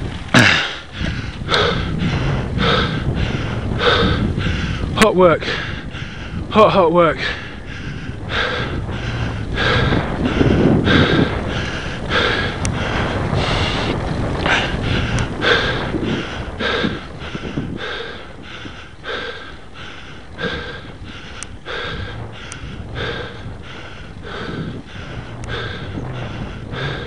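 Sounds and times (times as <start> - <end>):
cyclist breathing hard: 0.0 - 27.0
wind rumbling on microphone: 0.0 - 27.0.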